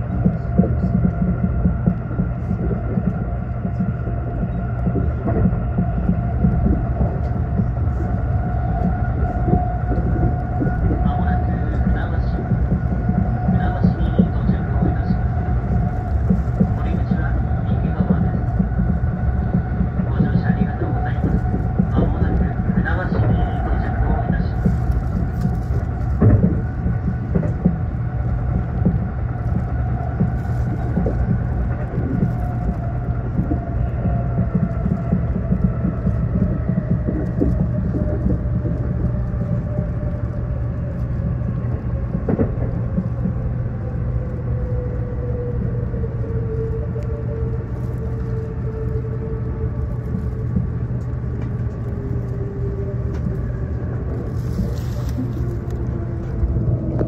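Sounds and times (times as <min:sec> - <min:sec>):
train wheels rumbling on rails: 0:00.0 - 0:57.0
train whine: 0:00.0 - 0:57.0.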